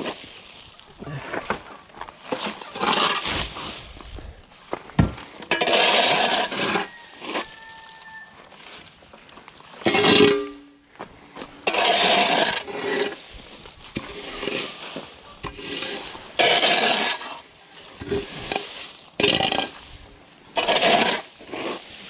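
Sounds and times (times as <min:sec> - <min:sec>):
shovel scraping debris off asphalt: 0:00.0 - 0:04.2, 0:05.3 - 0:09.0, 0:09.6 - 0:10.7, 0:11.4 - 0:22.0.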